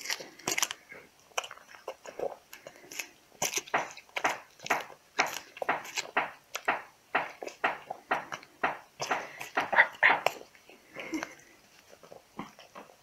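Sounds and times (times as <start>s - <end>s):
cat chewing cucumber crunches: 0.0s - 13.0s.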